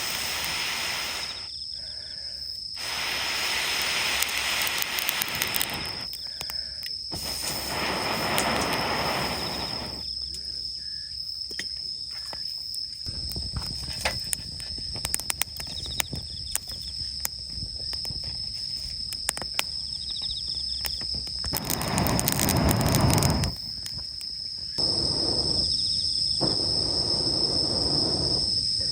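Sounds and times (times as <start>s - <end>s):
campfire crackling: 0.0s - 1.5s, 2.8s - 10.0s, 13.1s - 28.9s
insects droning: 0.0s - 28.9s.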